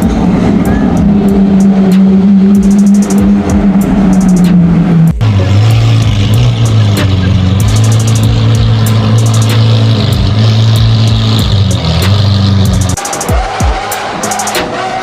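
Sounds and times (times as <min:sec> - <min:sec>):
car engine revving steadily: 0:00.0 - 0:15.0
music with deep bass and beat: 0:00.0 - 0:15.0.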